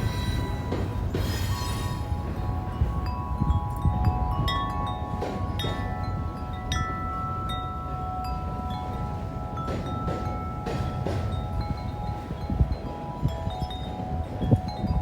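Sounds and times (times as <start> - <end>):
wind chime ringing: 0.0 - 15.0
wind rumbling on microphone: 0.0 - 15.0.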